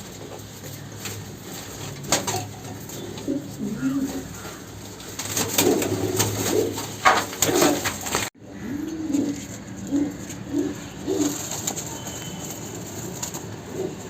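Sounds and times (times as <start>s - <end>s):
rustling and clicking: 0.0s - 8.3s, 9.2s - 14.0s
pigeons cooing: 0.4s - 14.0s.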